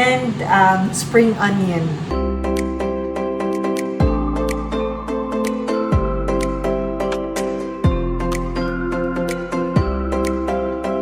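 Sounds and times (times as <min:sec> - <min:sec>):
soft instrumental music: 0:02.1 - 0:11.0.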